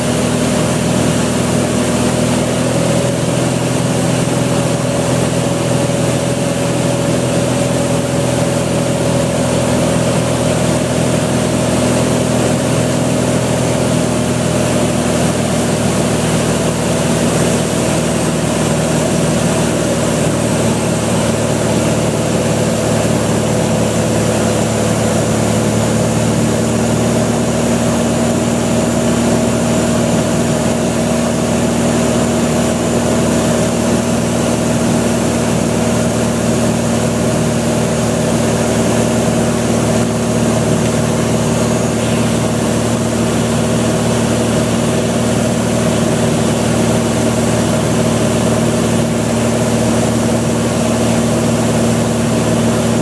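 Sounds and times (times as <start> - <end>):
propeller plane engine droning: 0.0 - 53.0.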